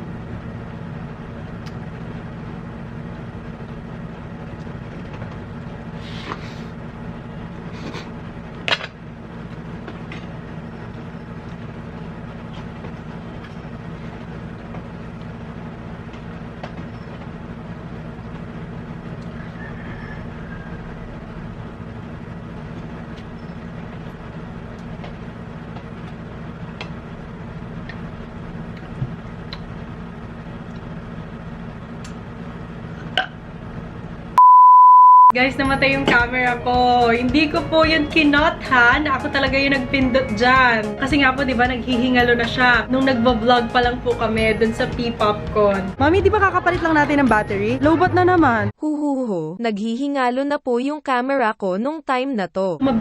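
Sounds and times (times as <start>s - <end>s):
low mechanical hum: 0.0s - 34.4s, 35.3s - 48.8s, 52.8s - 53.0s.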